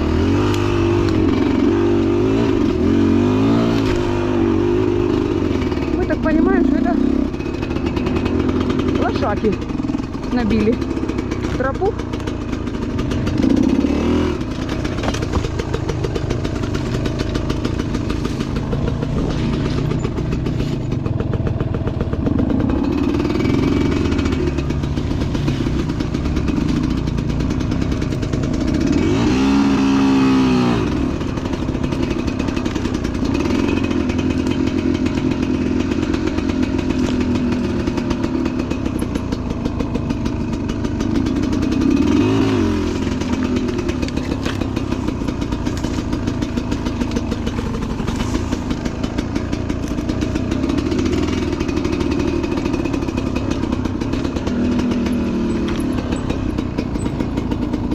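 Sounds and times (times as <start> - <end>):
motorcycle engine revving: 0.0 - 57.9
motorcycle engine running: 0.0 - 57.9.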